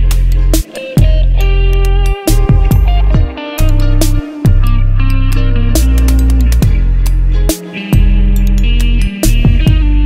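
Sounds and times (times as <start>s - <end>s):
deep held bass notes: 0.0s - 10.0s
plucked guitar: 0.0s - 10.0s.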